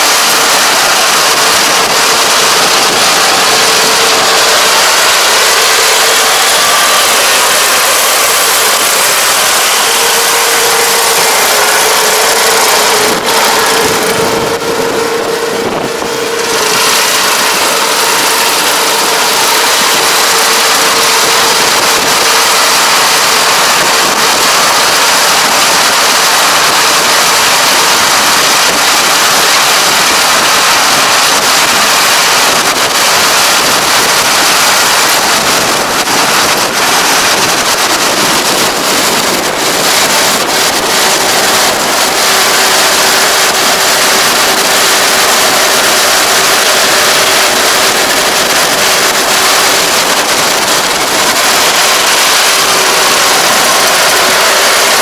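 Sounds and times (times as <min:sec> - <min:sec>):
combine harvester running: 0:00.0 - 0:55.0
steady mechanical whine: 0:00.0 - 0:55.0.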